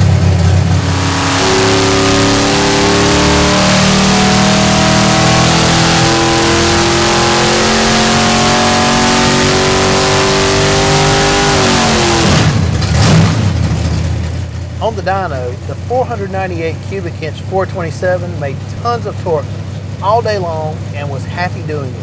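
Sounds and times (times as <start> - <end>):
engine running hard: 0.0 - 22.0.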